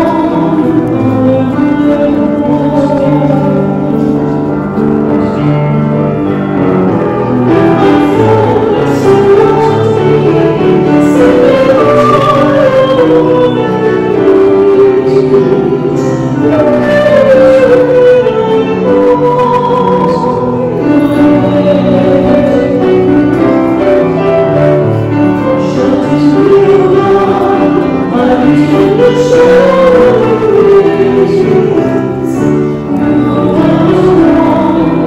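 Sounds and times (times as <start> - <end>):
hymn singing with vibrato: 0.0 - 4.6, 7.3 - 35.0
held accompaniment chords: 0.0 - 35.0.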